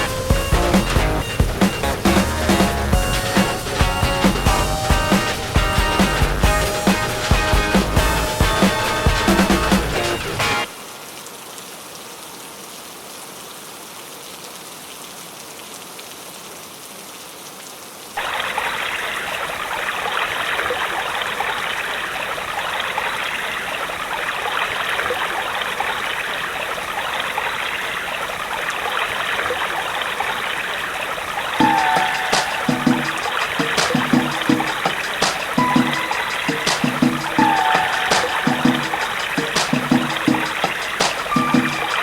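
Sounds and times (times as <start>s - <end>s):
rushing water: 0.0s - 42.0s.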